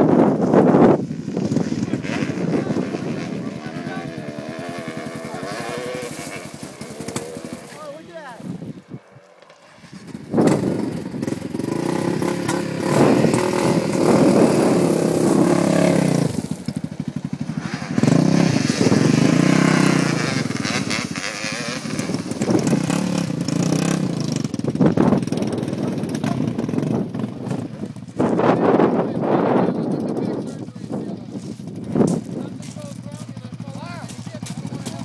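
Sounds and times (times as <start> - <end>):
dirt bike engine revving: 0.1 - 8.8, 9.4 - 35.0.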